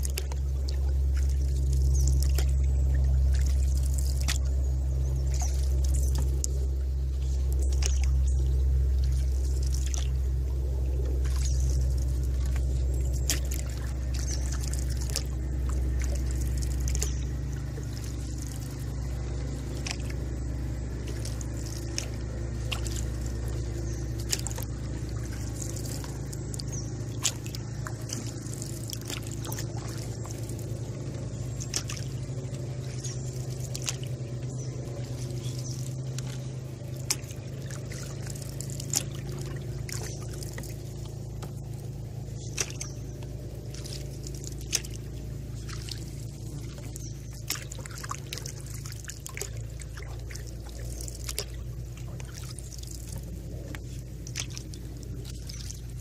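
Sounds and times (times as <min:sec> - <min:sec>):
steady low rumble: 0:00.0 - 0:56.0
raindrops ticking on water: 0:11.2 - 0:56.0.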